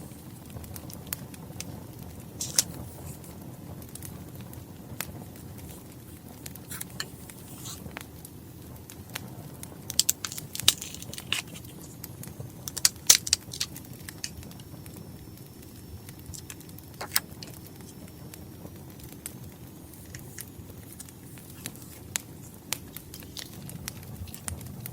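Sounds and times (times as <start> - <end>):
fire pops and snaps: 0.0 - 24.9
wood fire crackling: 0.0 - 24.9.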